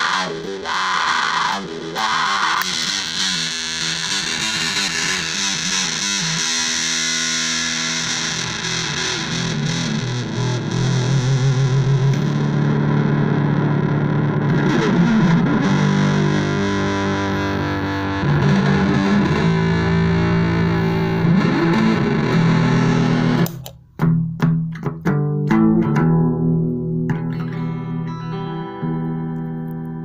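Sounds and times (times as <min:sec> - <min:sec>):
fuzz distorted electric guitar: 0:00.0 - 0:30.0
plucked guitar notes: 0:00.0 - 0:30.0.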